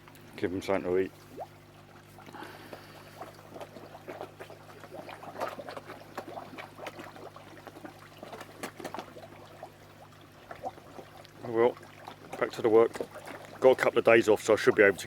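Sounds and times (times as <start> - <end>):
fish splashing and slurping: 0.0 - 15.0
steady low hum: 0.0 - 15.0.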